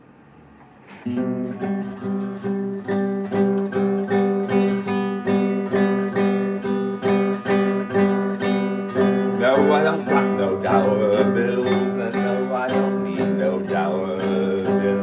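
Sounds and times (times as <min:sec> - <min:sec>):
acoustic guitar strumming: 0:00.8 - 0:15.0.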